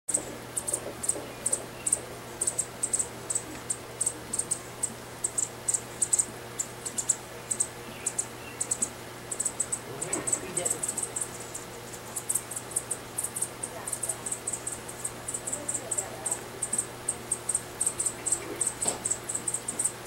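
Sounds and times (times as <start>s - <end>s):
fledgling high-pitched chirps: 0.5s - 20.0s.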